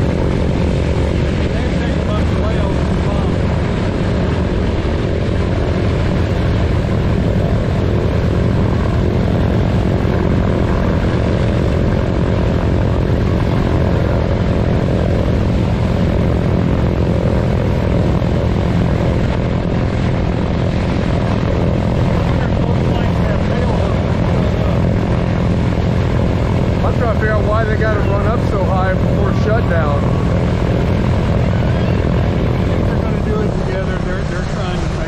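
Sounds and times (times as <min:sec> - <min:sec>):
radial aircraft engine running: 0:00.0 - 0:35.0.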